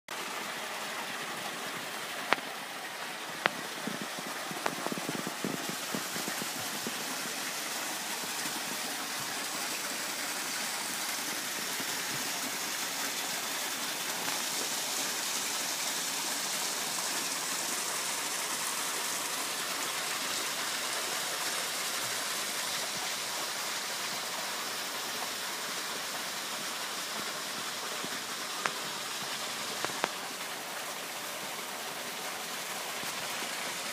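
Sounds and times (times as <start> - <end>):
outdoor hiss: 0.1 - 33.9.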